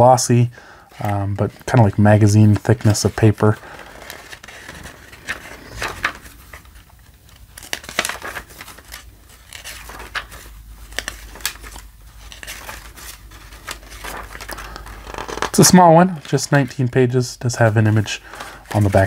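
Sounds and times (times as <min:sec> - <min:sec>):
pages turning: 0:01.0 - 0:19.0.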